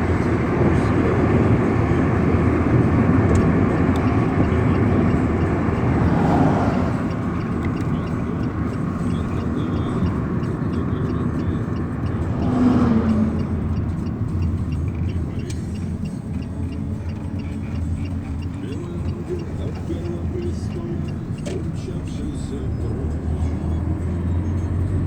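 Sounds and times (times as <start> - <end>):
car engine and tyre rumble: 0.0 - 25.0
passing traffic: 0.0 - 25.0.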